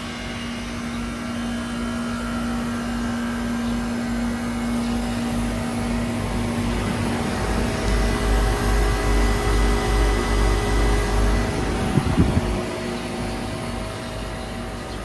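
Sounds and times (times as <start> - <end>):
heat pump running: 0.0 - 15.0.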